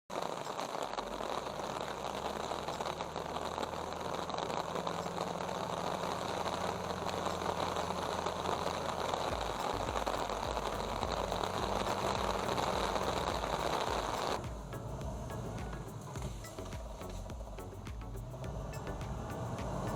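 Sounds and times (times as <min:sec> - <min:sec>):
bulldozer diesel engine running: 0:00.1 - 0:19.9
heavy rain hiss: 0:00.1 - 0:19.9
low uneven throbbing: 0:00.3 - 0:19.9.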